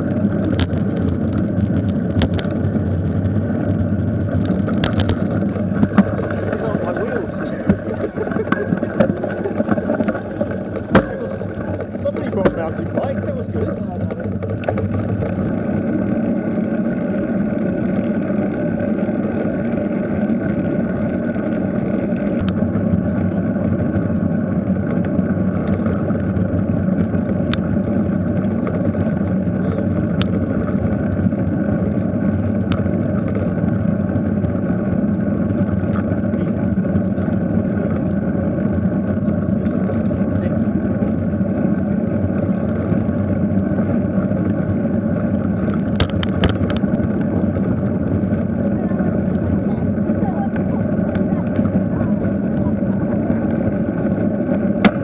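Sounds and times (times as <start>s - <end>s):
tyre rumble: 0.0s - 55.0s.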